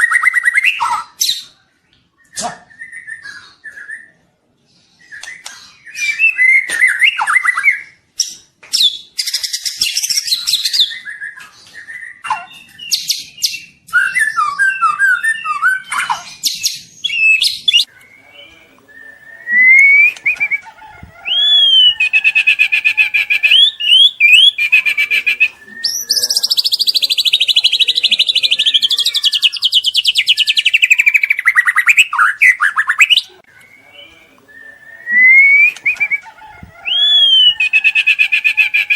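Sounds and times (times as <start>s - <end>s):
bird singing trills and whistles: 5.0s - 38.9s.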